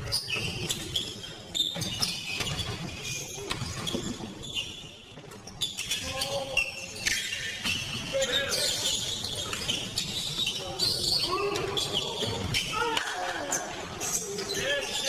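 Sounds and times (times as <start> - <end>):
shoes squeaking on floor: 0.0 - 12.8.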